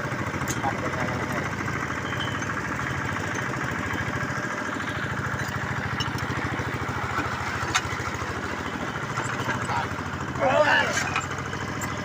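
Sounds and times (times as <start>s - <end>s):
drilling machine engine pulsing: 0.0s - 12.0s.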